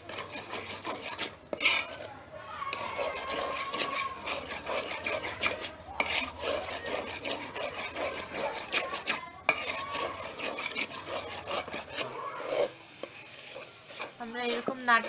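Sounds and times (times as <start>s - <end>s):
metal spoon scraping a pot: 0.0s - 15.0s.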